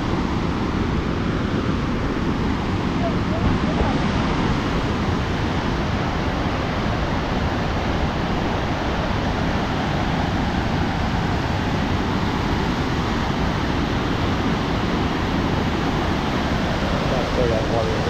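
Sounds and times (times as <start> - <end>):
waterfall rushing: 1.7 - 18.0.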